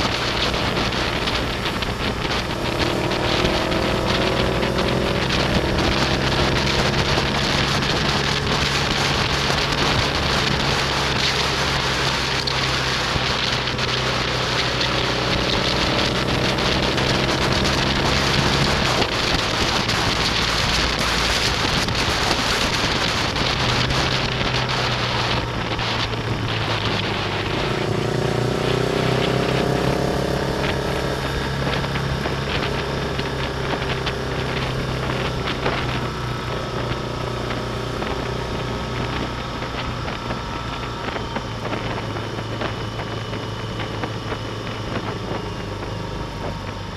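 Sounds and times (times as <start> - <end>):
motorcycle engine running: 0.0 - 46.9
wind rush on microphone: 0.0 - 46.9.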